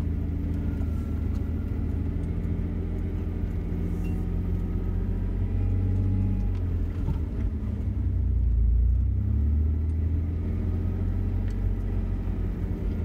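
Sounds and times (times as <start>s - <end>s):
jeep engine running at low revs: 0.0s - 13.0s.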